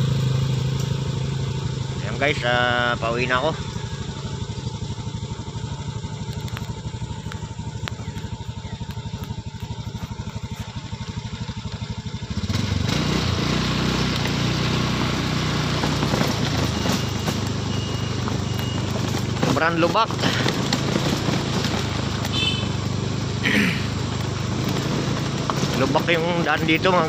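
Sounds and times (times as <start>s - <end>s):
rough road noise: 0.0s - 27.0s
small motorcycle engine: 0.0s - 27.0s.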